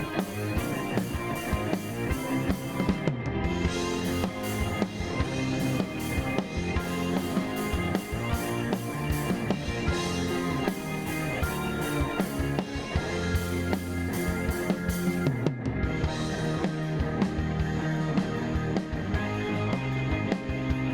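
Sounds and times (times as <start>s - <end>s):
instrumental rock music: 0.0s - 20.9s.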